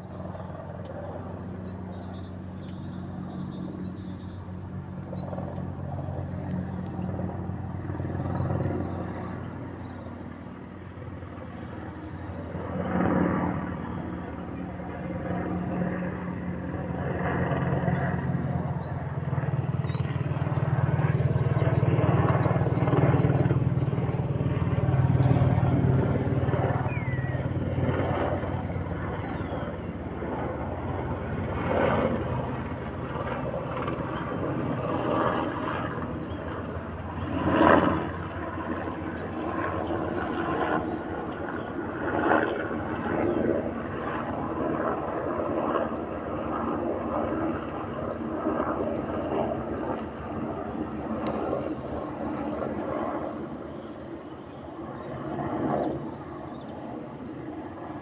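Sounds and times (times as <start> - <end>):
helicopter flying past: 0.0 - 58.0.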